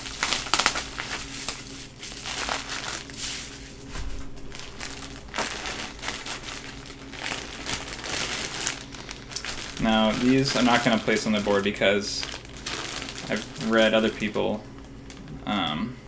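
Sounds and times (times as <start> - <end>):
stones shifting in bag: 0.0 - 14.4
plastic bag crinkling: 0.0 - 15.4.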